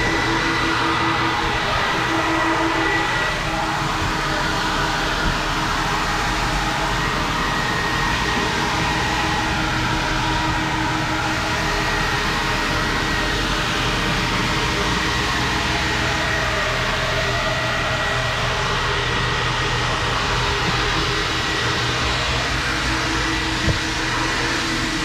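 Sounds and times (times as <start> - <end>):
car wash machinery rushing: 0.0 - 25.0
mechanical hum: 0.0 - 25.0.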